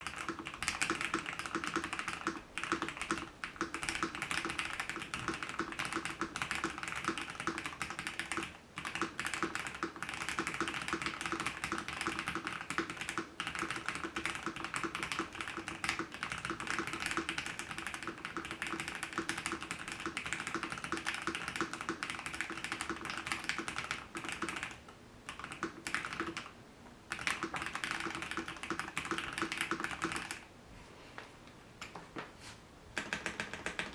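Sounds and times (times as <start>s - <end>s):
fast typing on mechanical keyboard: 0.0s - 30.5s, 33.0s - 33.9s.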